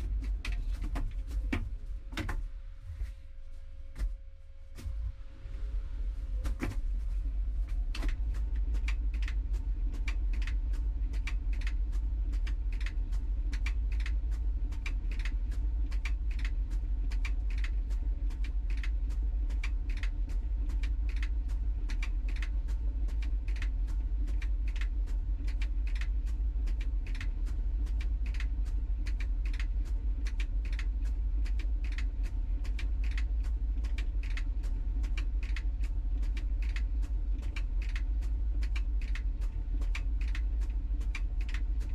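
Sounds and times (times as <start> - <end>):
tumble dryer humming: 0.0 - 41.9.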